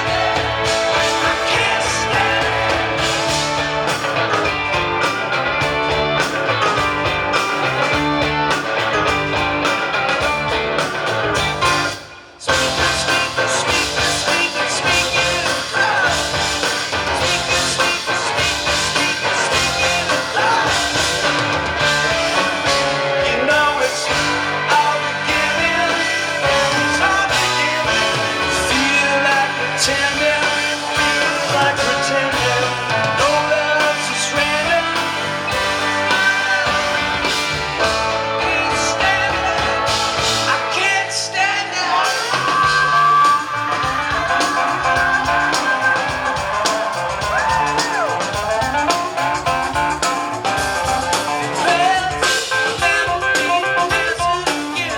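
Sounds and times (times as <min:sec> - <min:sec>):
live rock band playing: 0:00.0 - 0:54.9.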